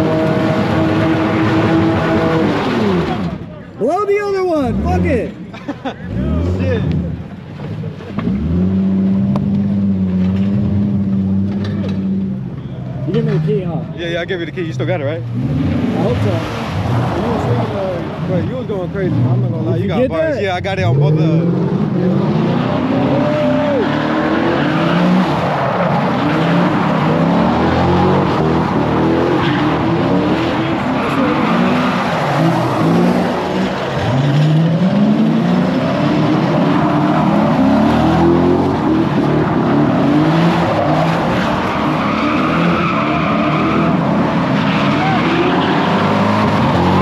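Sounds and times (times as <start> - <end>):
car engine revving: 0.0 - 3.6, 4.3 - 47.0
tires skidding: 0.0 - 47.0.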